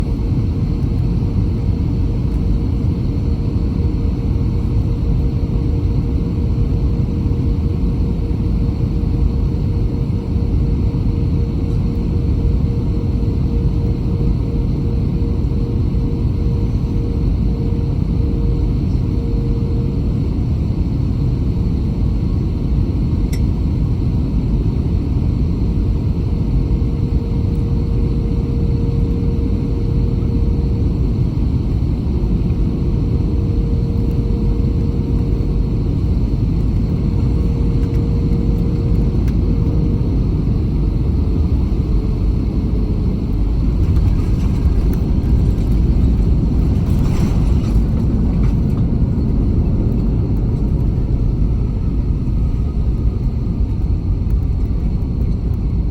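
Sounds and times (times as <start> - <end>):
engine and airflow rumble: 0.0 - 55.9
steady hum: 0.0 - 55.9.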